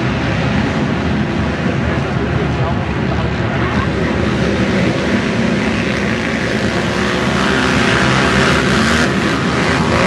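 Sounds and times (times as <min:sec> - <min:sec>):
quad engines revving: 0:00.0 - 0:10.0.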